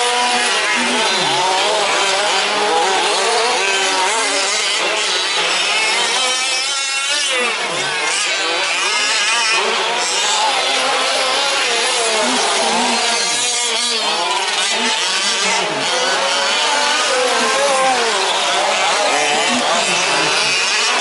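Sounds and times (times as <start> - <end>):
rc truck engines revving: 0.0 - 21.0.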